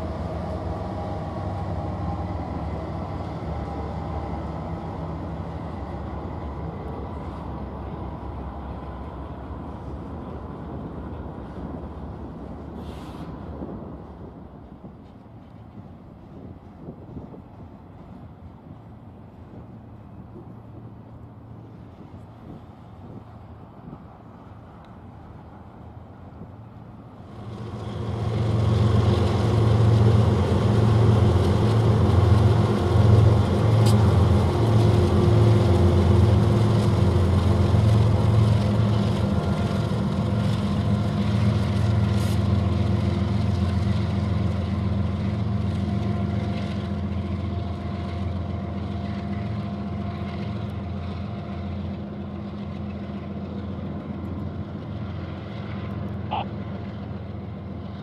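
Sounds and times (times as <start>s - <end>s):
locomotive engines droning: 0.0s - 58.0s.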